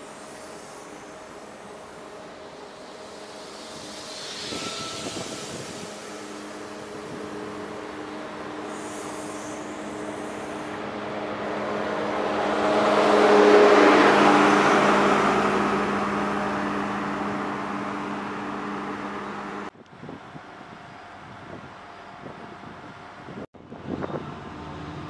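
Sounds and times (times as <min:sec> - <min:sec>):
train wheels rushing on rail: 0:00.0 - 0:23.4
train engine drone: 0:00.0 - 0:25.0
wind: 0:00.0 - 0:25.0.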